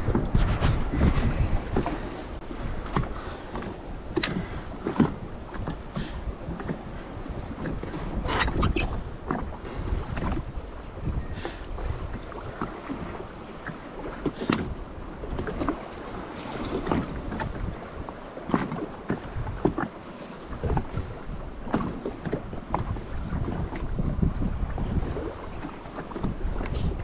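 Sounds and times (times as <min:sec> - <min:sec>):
water slapping against hull: 0:00.0 - 0:27.0
wind buffeting microphone: 0:00.0 - 0:27.0.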